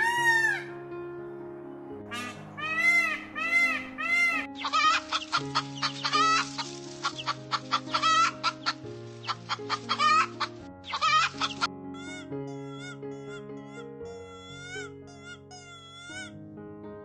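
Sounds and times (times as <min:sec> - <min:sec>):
background music: 0:00.0 - 0:17.0
chickens clucking: 0:02.1 - 0:16.3.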